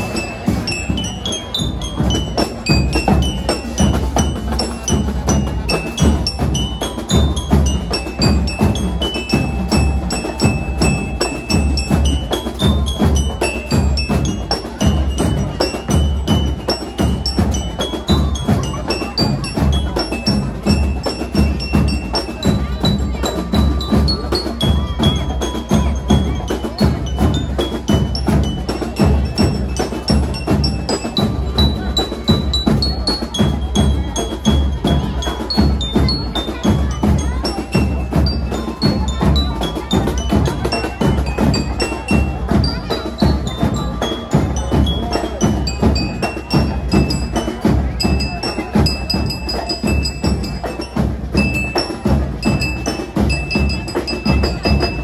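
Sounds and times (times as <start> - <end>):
cymbals: 0.0 - 55.0
marching band playing: 0.0 - 55.0
snare and bass drums: 0.0 - 55.0.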